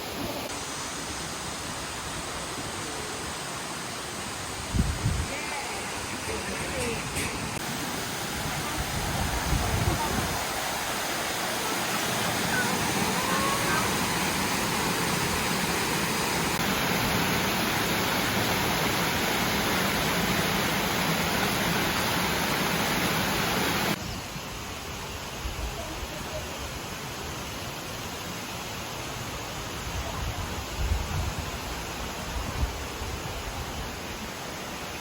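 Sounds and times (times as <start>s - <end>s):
small waterfall rushing: 0.0s - 35.0s.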